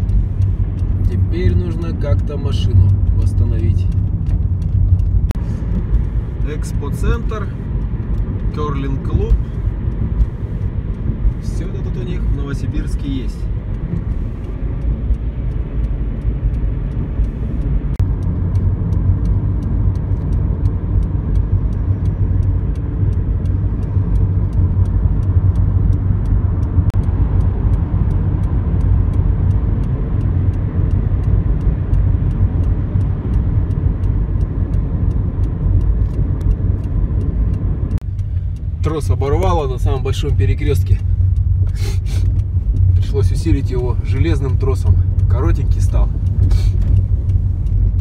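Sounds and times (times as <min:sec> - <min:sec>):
road and tyre rumble: 0:00.0 - 0:48.0.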